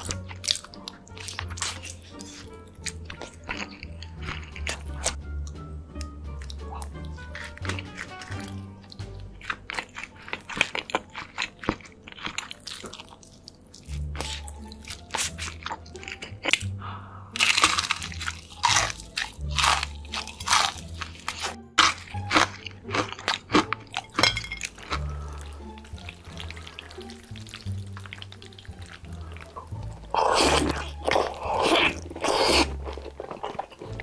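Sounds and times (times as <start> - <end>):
fried chicken crunching: 0.0 - 5.2, 6.8 - 16.7, 17.3 - 34.0.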